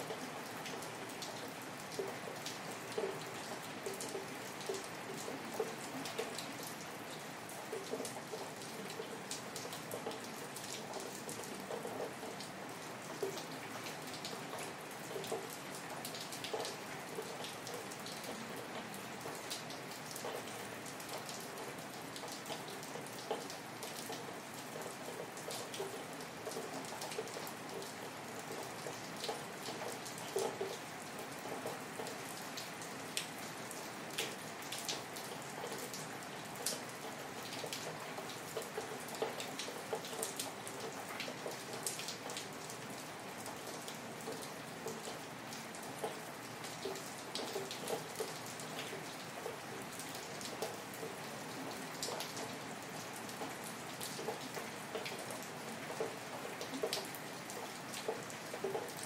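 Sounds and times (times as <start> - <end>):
raindrops ticking close by: 0.0 - 59.0
steady rain: 0.0 - 59.0.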